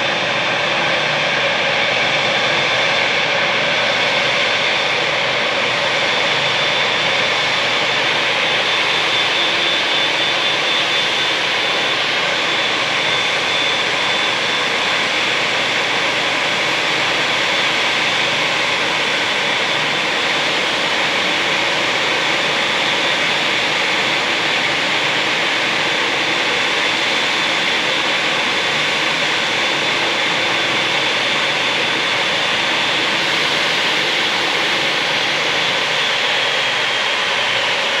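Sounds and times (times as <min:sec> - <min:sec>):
jet engines running with whine: 0:00.0 - 0:38.0.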